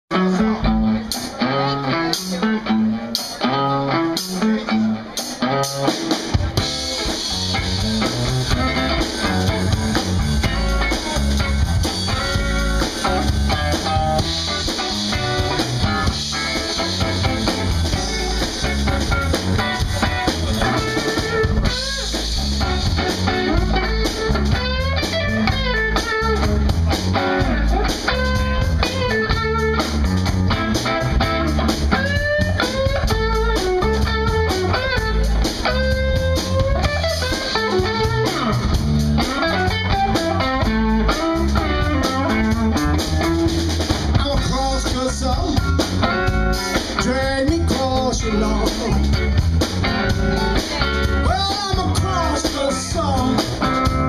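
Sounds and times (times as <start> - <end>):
bass guitar: 0.0 - 54.0
drum kit: 0.1 - 54.0
electric guitar: 0.1 - 54.0.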